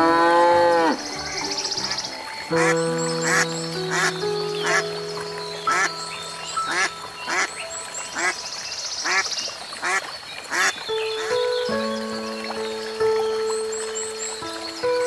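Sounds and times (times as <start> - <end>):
background music with held notes: 0.0 - 9.2, 10.6 - 15.0.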